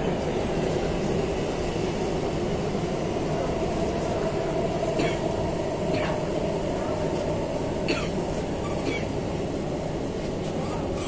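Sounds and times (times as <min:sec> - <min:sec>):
train interior rumble: 0:00.0 - 0:11.0.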